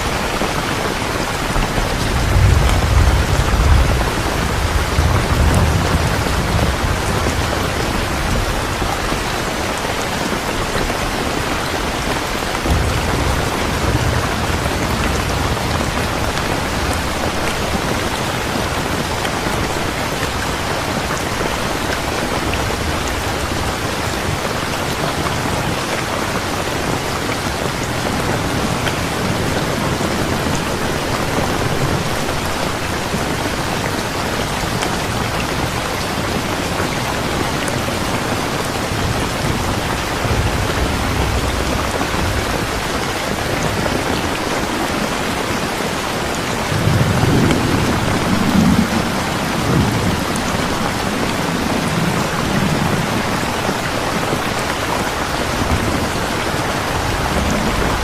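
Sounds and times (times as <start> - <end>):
low rumble of thunder: 0.0 - 33.8, 34.4 - 58.0
heavy rain: 0.0 - 58.0.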